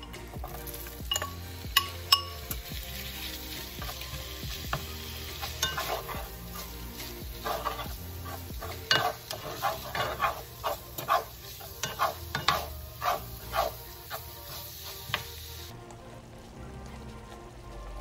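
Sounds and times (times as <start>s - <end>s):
meat sizzling in a pan: 0.0s - 15.7s
spatula scraping a pan: 0.4s - 15.7s.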